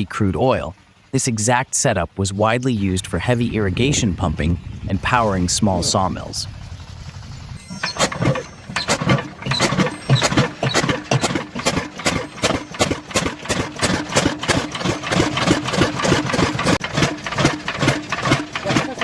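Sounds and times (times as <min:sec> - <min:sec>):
oil engine running: 0:00.0 - 0:19.0.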